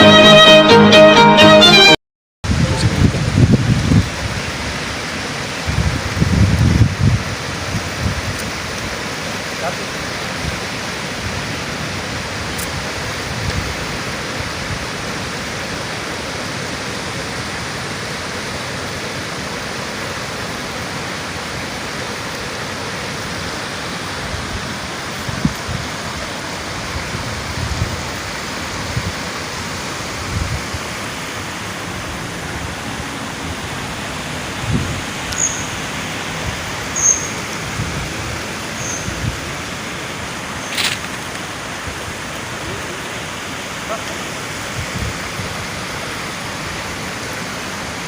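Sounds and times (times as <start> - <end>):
water rushing: 2.5 - 48.0.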